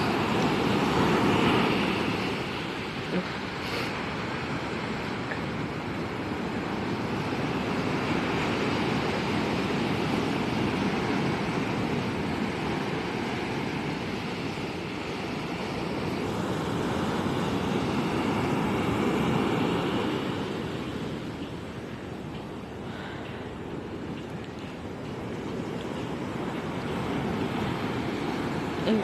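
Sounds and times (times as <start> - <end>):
ocean surf washing: 0.0 - 29.0.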